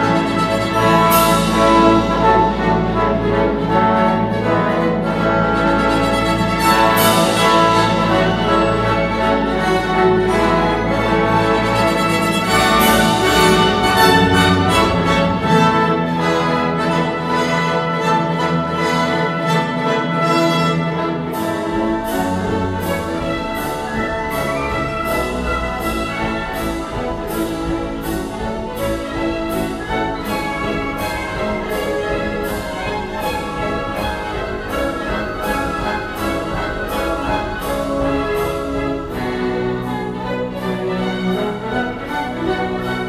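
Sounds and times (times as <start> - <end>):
orchestral music over speakers: 0.0 - 43.0.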